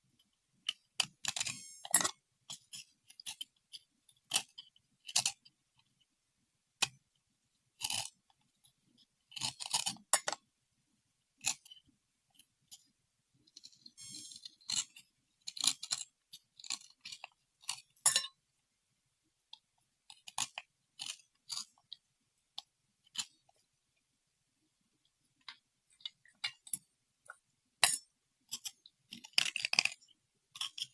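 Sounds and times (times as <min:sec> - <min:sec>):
clicks and taps of small objects: 0:00.1 - 0:06.1, 0:06.8 - 0:07.2, 0:07.8 - 0:10.5, 0:11.4 - 0:18.4, 0:19.5 - 0:23.7, 0:25.0 - 0:30.9.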